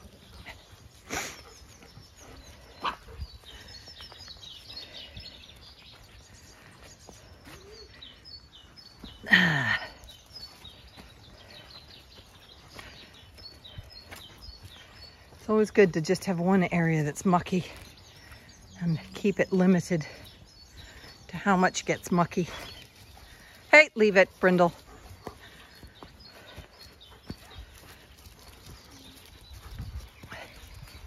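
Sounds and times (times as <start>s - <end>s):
faint birdsong: 0.0s - 31.0s.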